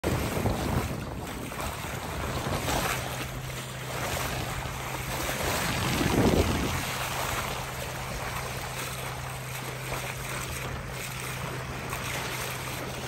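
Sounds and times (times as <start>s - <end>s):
bow wave rushing along hull: 0.0s - 13.0s
low steady hum: 0.0s - 13.0s
wind buffeting microphone: 0.0s - 13.0s.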